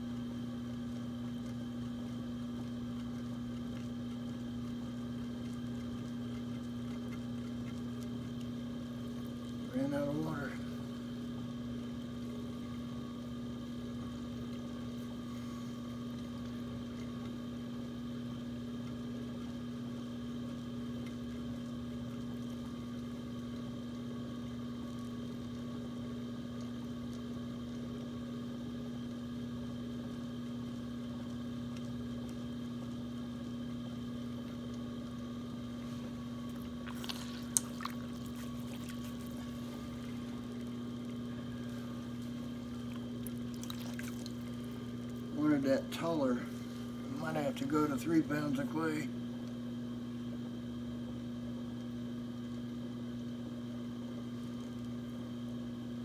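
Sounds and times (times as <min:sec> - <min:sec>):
potter's wheel motor hum: 0:00.0 - 0:56.0.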